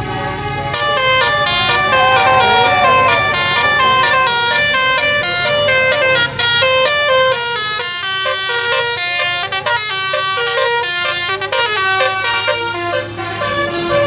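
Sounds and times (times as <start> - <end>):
bus musical air horns: 0.0 - 14.0.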